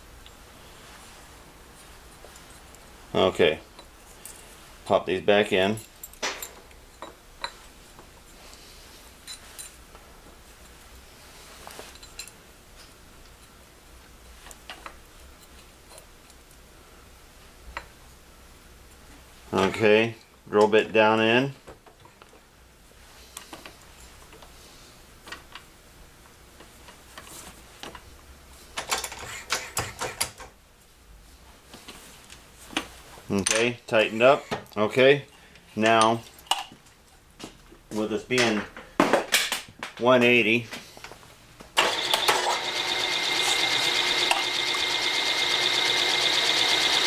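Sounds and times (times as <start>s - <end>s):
faint shop hum: 0.0s - 47.0s.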